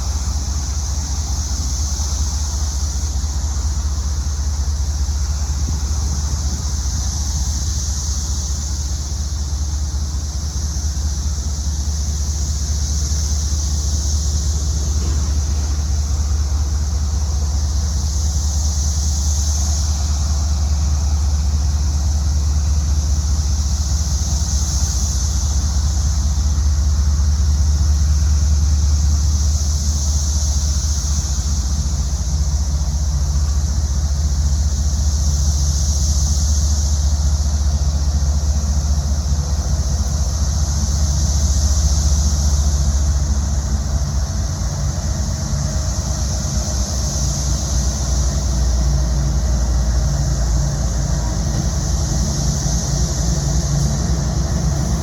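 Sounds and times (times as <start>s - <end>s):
cicadas buzzing: 0.0s - 55.0s
diesel locomotive drone: 0.0s - 55.0s.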